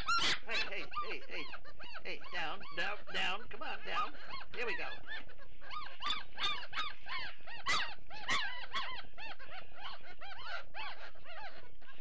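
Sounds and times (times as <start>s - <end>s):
puppies whining and squealing: 0.0s - 12.0s.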